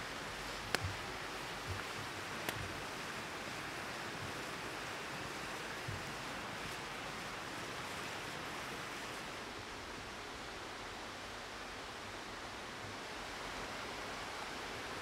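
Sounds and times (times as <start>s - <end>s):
rushing hissing water: 0.0s - 15.0s.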